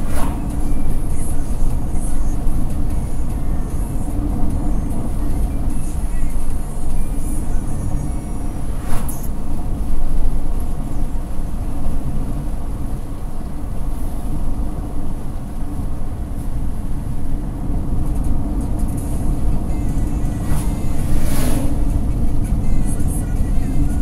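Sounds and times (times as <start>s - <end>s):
car cabin road rumble: 0.0s - 24.0s.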